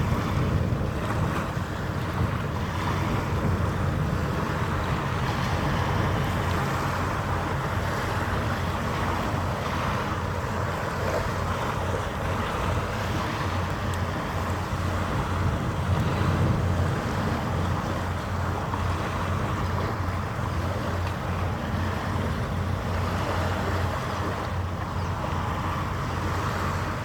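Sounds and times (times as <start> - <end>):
ship machinery hum: 0.0 - 27.0
wind and water noise: 0.0 - 27.0.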